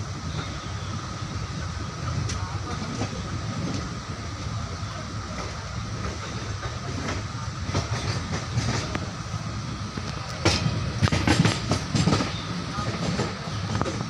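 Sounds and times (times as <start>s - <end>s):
train rumbling on rails: 0.0s - 14.0s
wheels clattering over rail joints: 0.2s - 14.0s.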